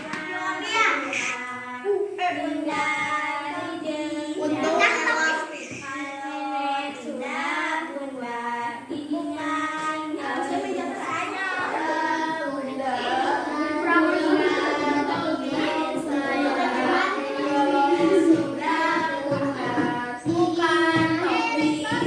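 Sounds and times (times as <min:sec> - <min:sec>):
child singing: 0:00.0 - 0:22.0.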